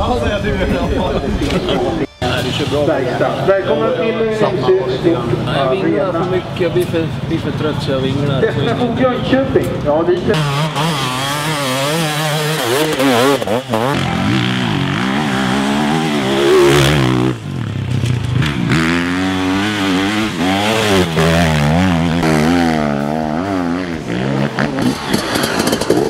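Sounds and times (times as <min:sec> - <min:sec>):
motorcycle engine revving: 0:02.2 - 0:26.0.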